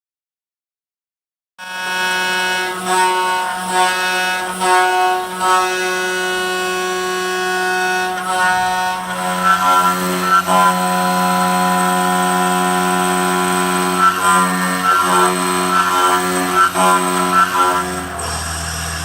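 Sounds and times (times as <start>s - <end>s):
router spindle whining: 1.7s - 19.0s.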